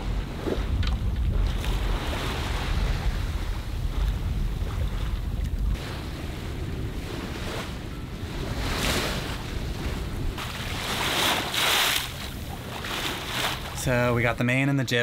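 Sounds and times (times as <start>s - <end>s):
water rushing along a boat hull: 0.0s - 14.4s
wind rumble on microphone: 0.0s - 14.4s.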